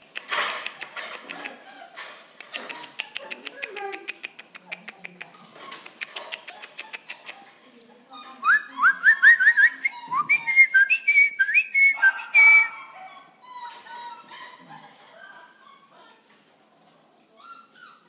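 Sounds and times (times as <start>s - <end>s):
puppies whining and yelping: 0.6s - 4.2s, 5.6s - 10.7s, 12.0s - 18.0s.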